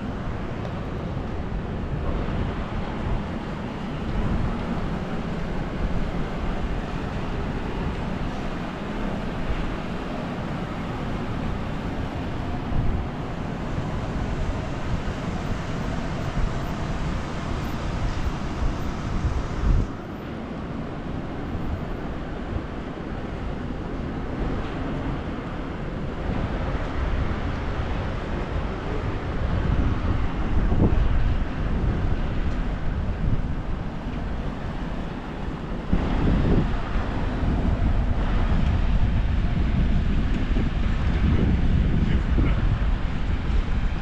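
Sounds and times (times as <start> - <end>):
jet engine roar: 0.0 - 44.0
wind buffeting microphone: 0.0 - 44.0.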